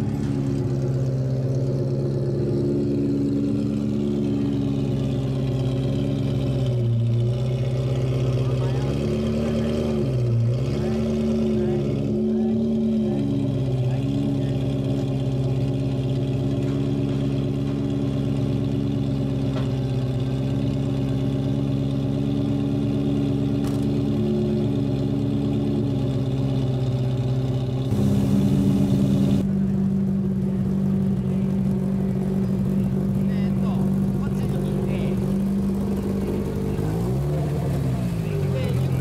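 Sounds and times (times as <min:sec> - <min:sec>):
car driving slowly past: 0:00.0 - 0:39.0
car engine idling: 0:00.0 - 0:39.0.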